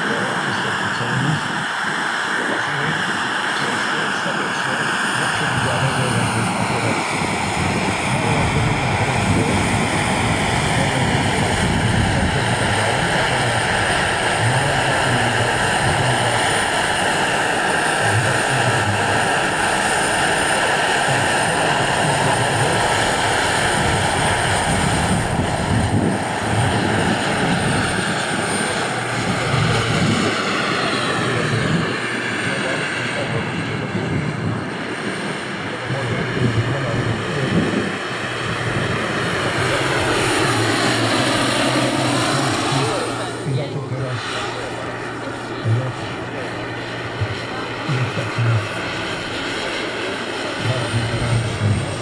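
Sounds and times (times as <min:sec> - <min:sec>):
helicopter rotor rumble: 0:00.0 - 0:52.0
high turbine whine: 0:00.0 - 0:52.0.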